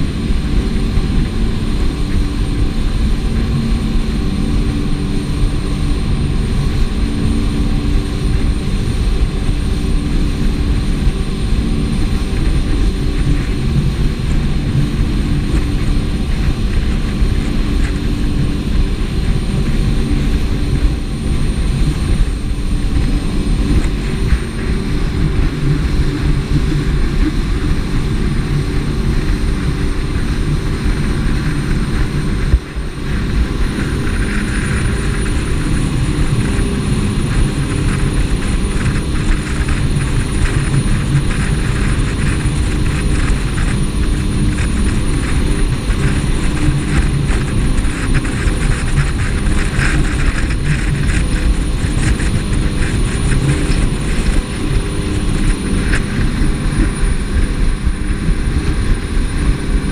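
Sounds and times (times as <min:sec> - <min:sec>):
boat engine drone: 0:00.0 - 0:59.9
rushing noise: 0:00.0 - 0:59.9.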